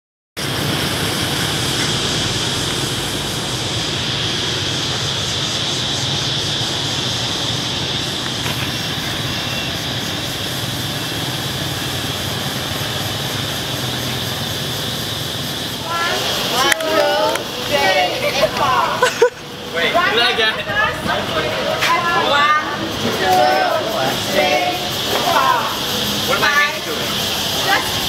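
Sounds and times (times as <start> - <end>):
motorbikes passing: 0.4 - 28.0.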